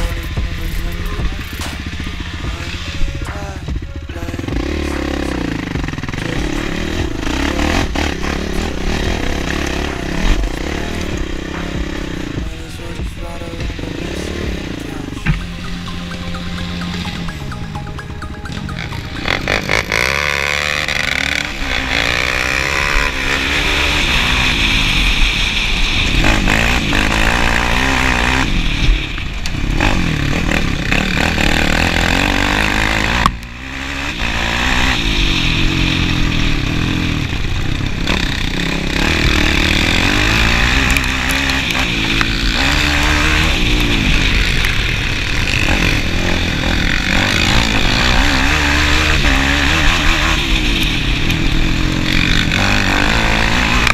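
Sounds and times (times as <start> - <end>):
quad engine revving: 0.0 - 17.5, 18.6 - 53.9.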